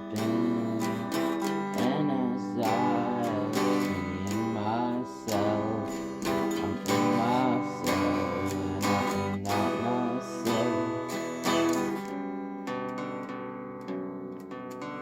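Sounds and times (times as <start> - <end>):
person singing: 0.0 - 12.2
strummed acoustic guitar: 0.0 - 15.0.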